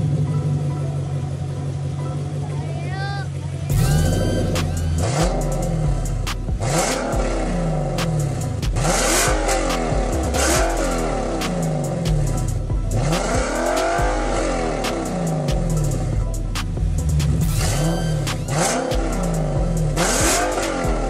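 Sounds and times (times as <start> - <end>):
car engine revving: 3.3 - 21.0.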